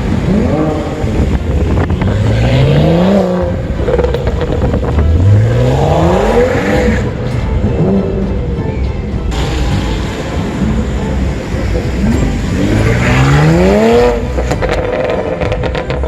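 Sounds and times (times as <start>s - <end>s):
car engine revving: 0.0s - 8.6s, 9.3s - 16.0s.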